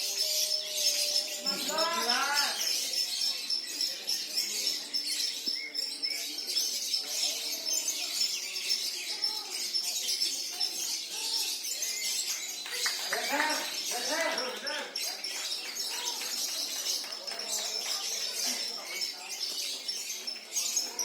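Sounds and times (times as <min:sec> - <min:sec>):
lovebirds chirping and trilling: 0:00.0 - 0:21.0.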